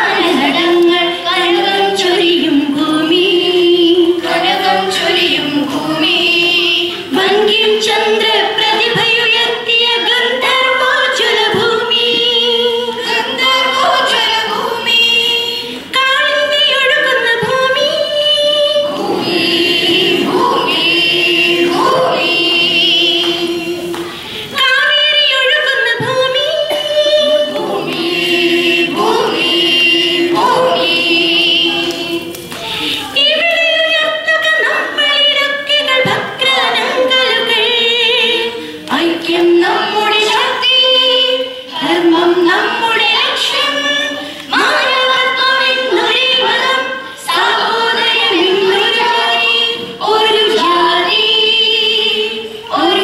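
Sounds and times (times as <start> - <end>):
children and adults singing: 0.0 - 53.0.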